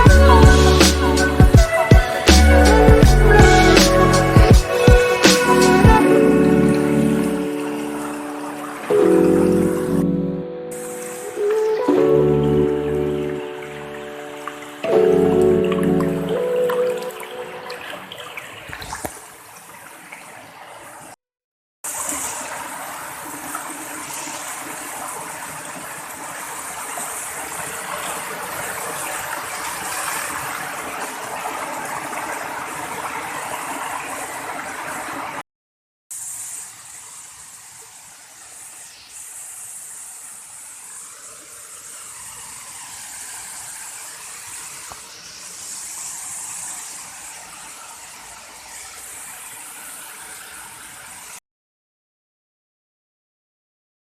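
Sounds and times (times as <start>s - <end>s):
waterfall rushing: 0.0s - 20.5s, 21.9s - 35.4s, 36.2s - 51.4s.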